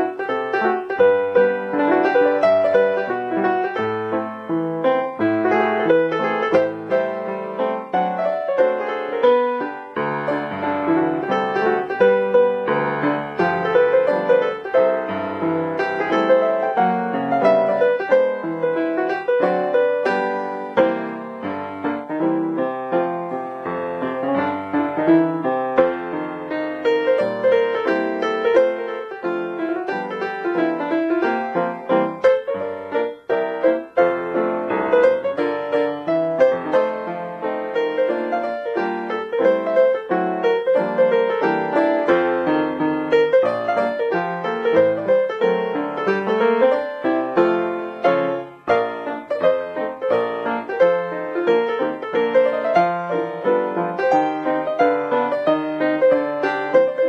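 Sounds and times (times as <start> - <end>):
piano music with quick notes: 0.0 - 57.0.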